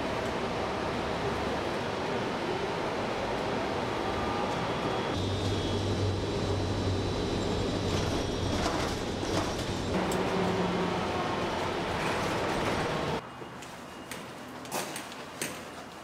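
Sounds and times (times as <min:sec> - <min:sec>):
bus engine and road rumble: 0:00.0 - 0:13.2.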